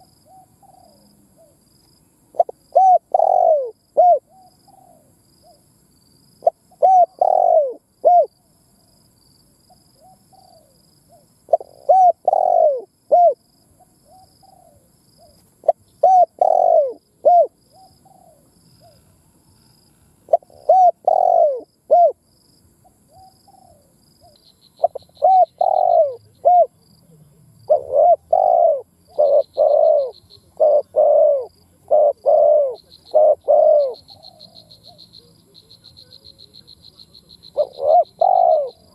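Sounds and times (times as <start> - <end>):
dove cooing: 0.0 - 1.6, 2.3 - 5.6, 6.4 - 8.3, 10.0 - 19.2, 20.2 - 22.2, 23.1 - 38.9.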